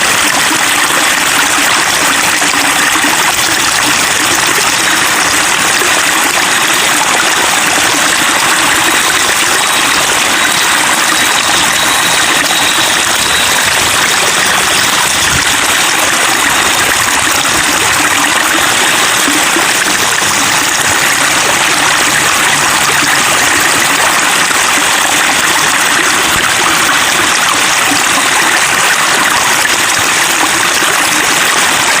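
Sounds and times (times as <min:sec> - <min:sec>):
flowing water babbling: 0:00.0 - 0:32.0.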